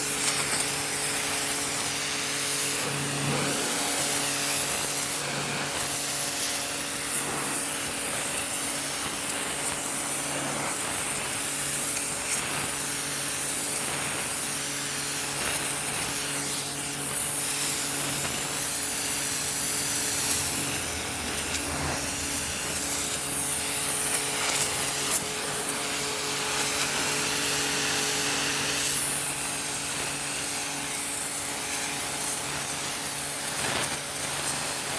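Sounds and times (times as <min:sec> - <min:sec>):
pressure washer motor hum: 0:00.0 - 0:30.8
water jet hissing on stone: 0:00.0 - 0:34.9.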